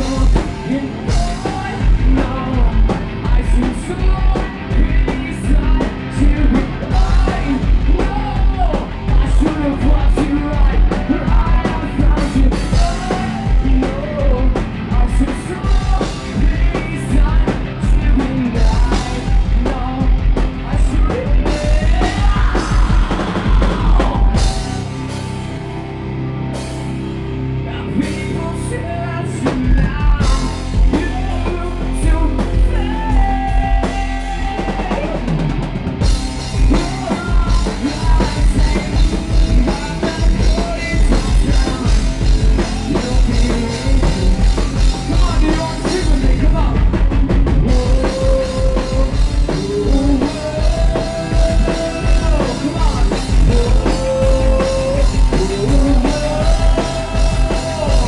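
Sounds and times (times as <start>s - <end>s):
person singing: 0.0s - 25.6s, 27.6s - 58.0s
pounding drum kit: 0.0s - 27.3s, 28.0s - 58.0s
live rock band playing: 0.0s - 58.0s.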